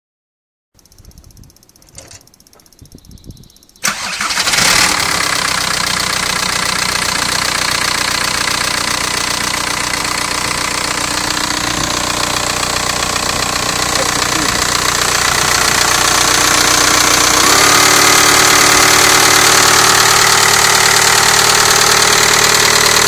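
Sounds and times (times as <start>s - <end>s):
diesel engine running: 3.8s - 23.0s.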